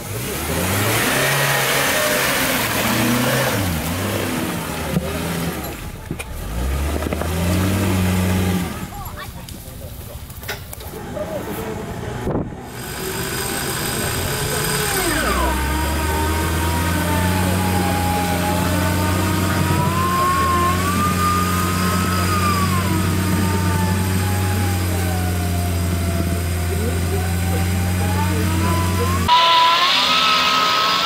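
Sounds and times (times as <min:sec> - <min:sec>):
engine running hard under load: 0:00.0 - 0:10.1, 0:10.8 - 0:31.0.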